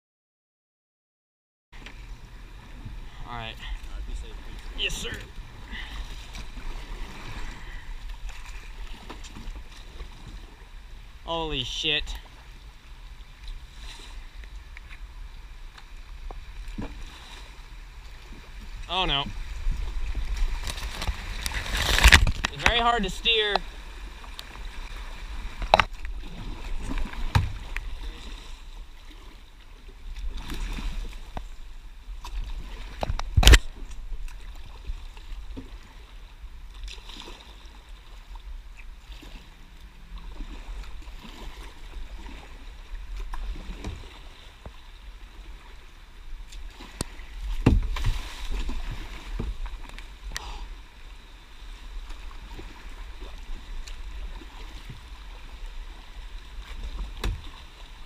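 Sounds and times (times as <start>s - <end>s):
paddle strokes splashing: 1.8s - 58.0s
rushing water current: 1.8s - 58.0s.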